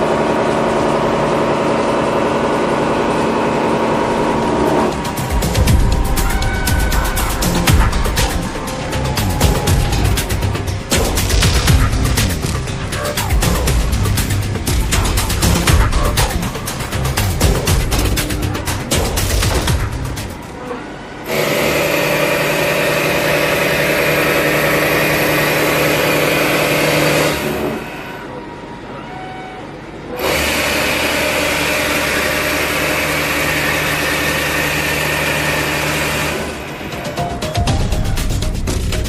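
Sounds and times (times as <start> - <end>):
milling machine cutting metal: 0.0 - 28.8, 29.9 - 37.3.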